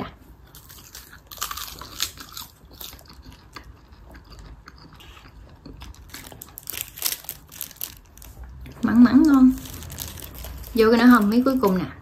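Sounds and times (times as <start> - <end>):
child chewing crunchy snack: 0.2 - 11.7.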